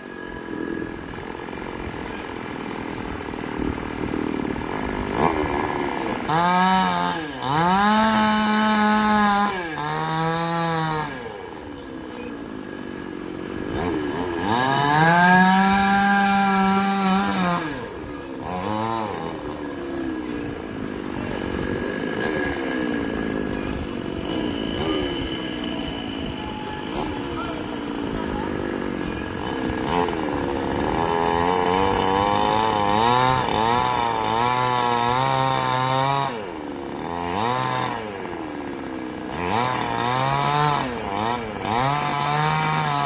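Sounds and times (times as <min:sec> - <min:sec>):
chainsaw engine revving: 0:00.0 - 0:43.0.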